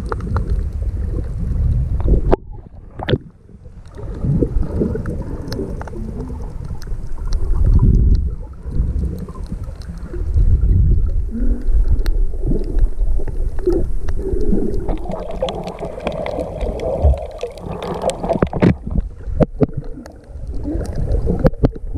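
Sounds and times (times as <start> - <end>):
sharp underwater clicks: 0.0 - 10.4, 11.0 - 21.9
underwater gurgling and rumbling: 0.0 - 21.9.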